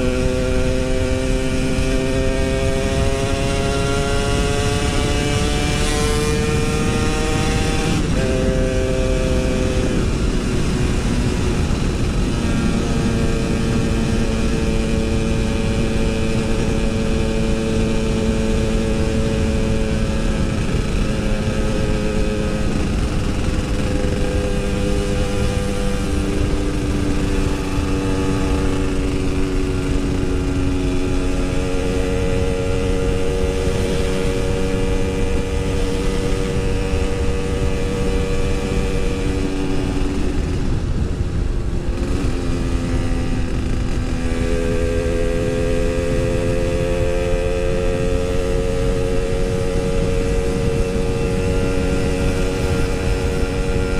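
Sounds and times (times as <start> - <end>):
two-stroke motorcycle engine: 0.0 - 53.9.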